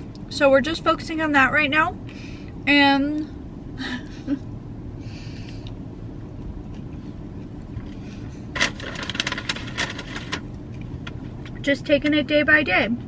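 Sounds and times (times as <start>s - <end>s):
car cabin hum: 0.0s - 13.0s.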